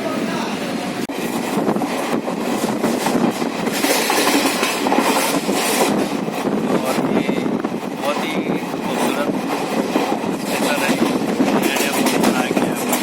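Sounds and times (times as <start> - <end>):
train rattling on rails: 0.0 - 13.0.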